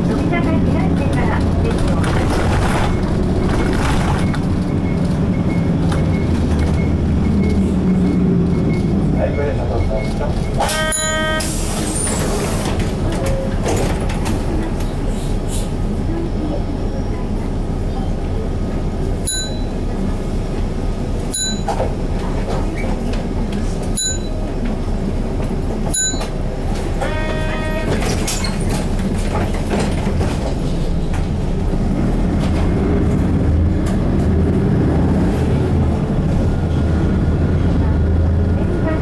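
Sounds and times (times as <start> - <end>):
bus diesel engine: 0.0 - 39.0.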